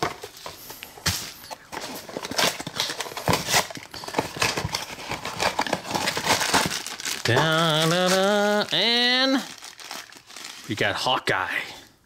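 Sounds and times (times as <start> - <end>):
cardboard rustling: 0.0 - 10.6.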